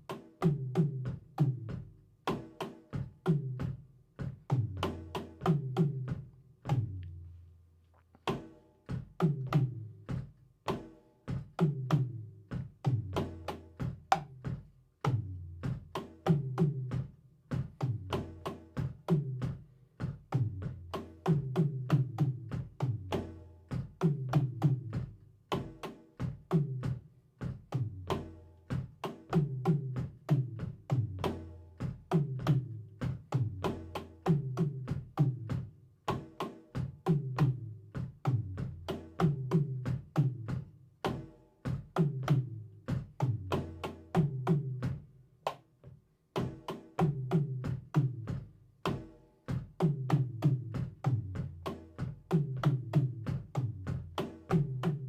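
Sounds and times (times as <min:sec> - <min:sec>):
drum kit groove: 0:00.0 - 0:07.4, 0:08.2 - 0:55.0.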